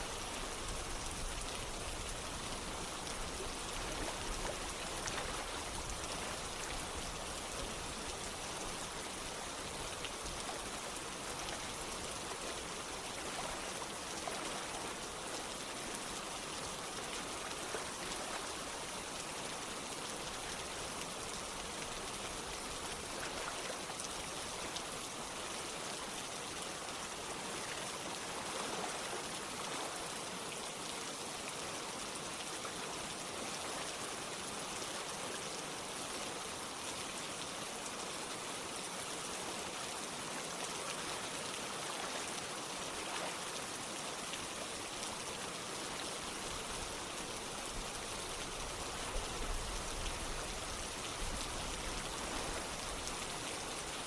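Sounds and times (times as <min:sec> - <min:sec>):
running water: 0:00.0 - 0:54.0
steady rain falling: 0:00.0 - 0:54.0.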